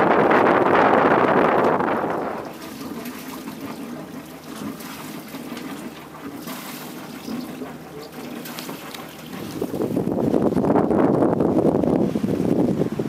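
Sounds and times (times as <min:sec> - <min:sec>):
water lapping around boat hull: 0:00.0 - 0:13.0.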